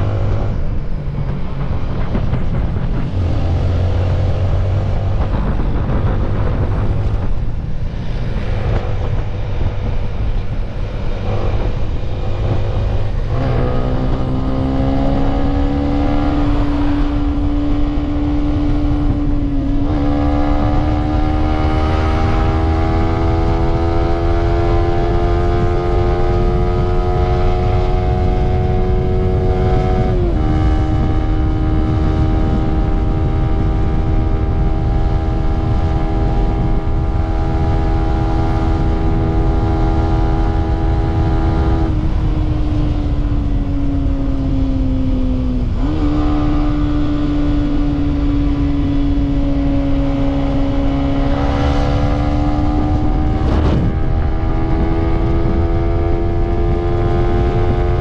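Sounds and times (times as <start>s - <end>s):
motorcycle engine pulling hard: 0.0s - 58.0s
wind rushing over microphone: 0.0s - 58.0s.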